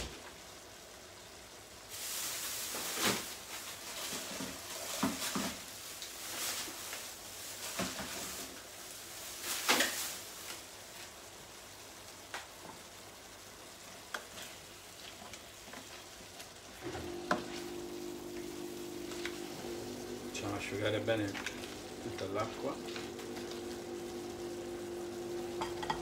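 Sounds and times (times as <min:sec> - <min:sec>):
sauce sizzling and spluttering: 0:00.6 - 0:26.0.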